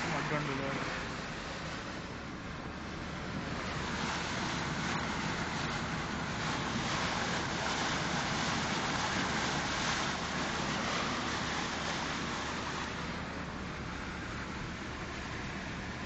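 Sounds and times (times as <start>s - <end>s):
road and wind noise: 0.0s - 16.0s
tyres splashing through water: 0.0s - 16.0s.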